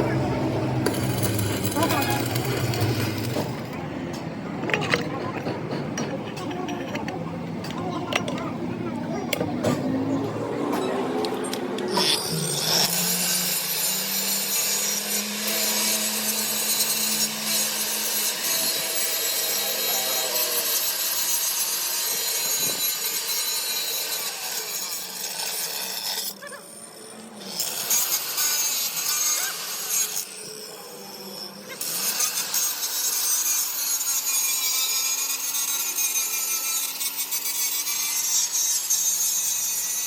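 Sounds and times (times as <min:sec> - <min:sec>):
power tool grinding steel: 0:00.0 - 0:09.4, 0:10.0 - 0:40.0.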